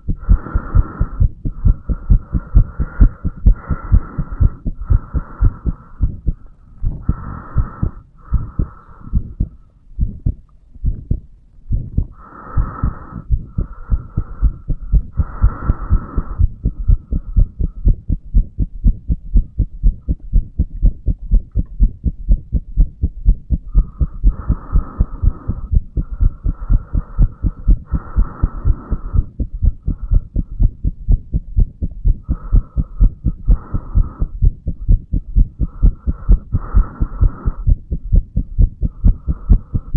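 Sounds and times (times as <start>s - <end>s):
heartbeat thuds: 0.0s - 39.9s.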